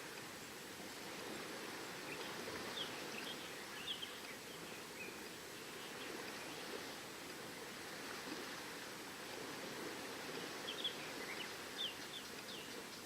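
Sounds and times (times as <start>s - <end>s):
surf washing on shore: 0.0s - 13.0s.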